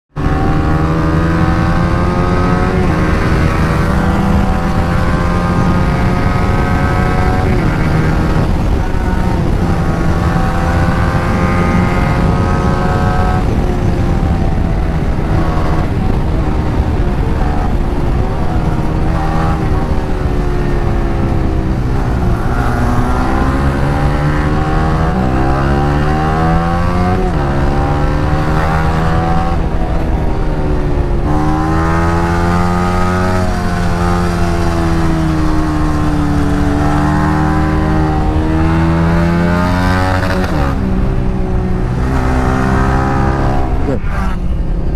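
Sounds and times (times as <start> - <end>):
motorcycle engines accelerating: 0.2 - 44.9.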